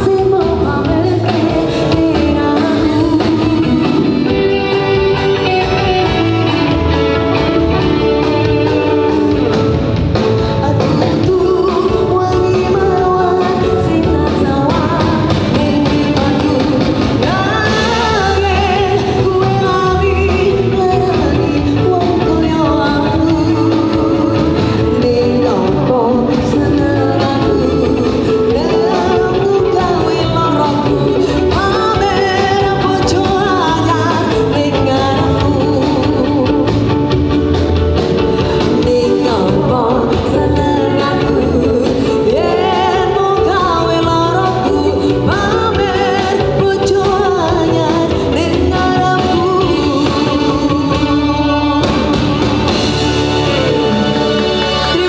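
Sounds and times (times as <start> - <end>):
live band playing: 0.0 - 55.0
woman singing into microphone: 0.0 - 55.0.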